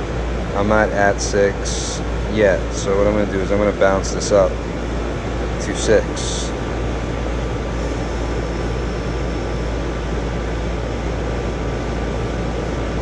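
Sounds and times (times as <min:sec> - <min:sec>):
air conditioning unit running: 0:00.0 - 0:13.0.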